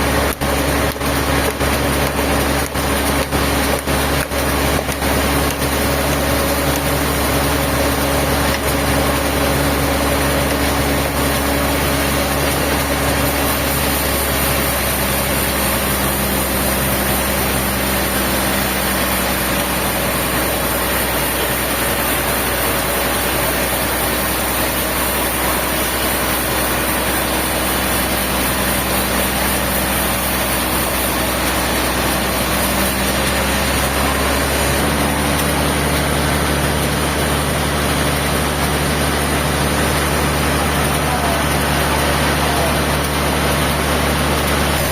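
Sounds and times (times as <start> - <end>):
machine engine running: 0.0 - 44.9.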